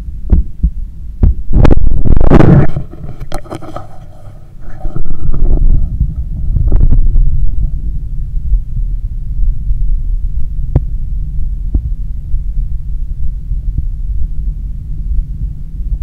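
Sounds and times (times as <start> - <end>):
heartbeat through stethoscope: 0.0 - 16.0.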